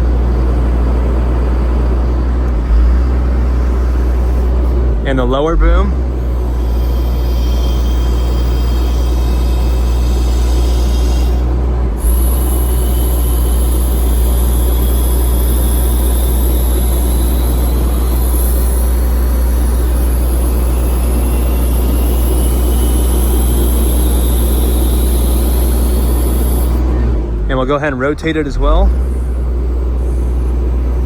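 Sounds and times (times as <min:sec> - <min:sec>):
diesel engine rumbling: 0:00.0 - 0:31.0
high hydraulic whine: 0:00.0 - 0:31.0.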